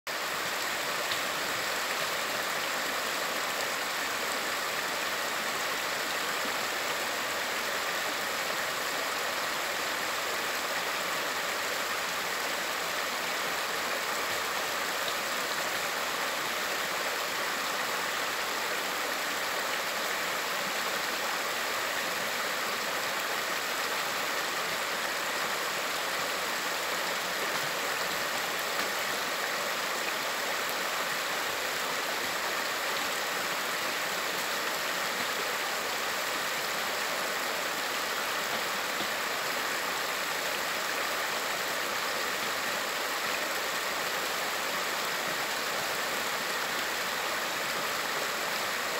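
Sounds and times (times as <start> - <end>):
stream flowing over rocks: 0.1 - 48.9.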